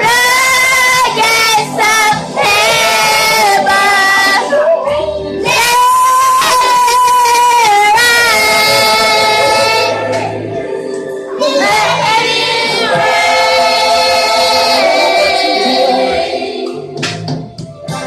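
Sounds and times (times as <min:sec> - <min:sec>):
choir singing with instruments: 0:00.0 - 0:18.0.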